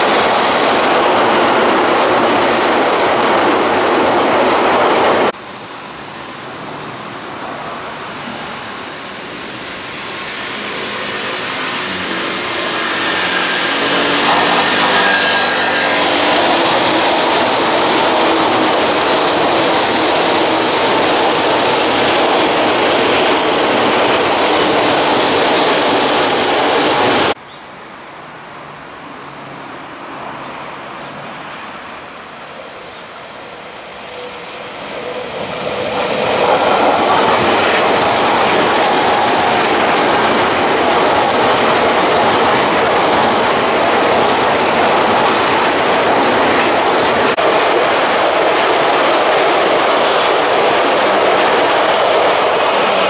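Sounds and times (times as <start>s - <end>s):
electric train passing: 0.0s - 27.4s, 28.4s - 53.0s.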